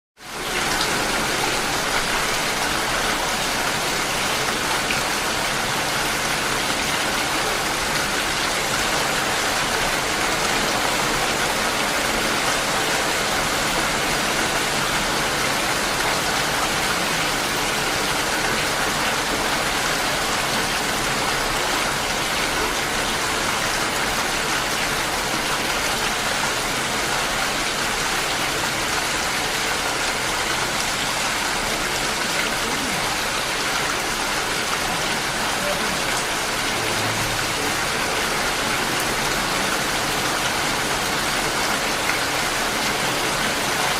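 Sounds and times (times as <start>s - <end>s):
steady rain falling: 0.2s - 43.9s.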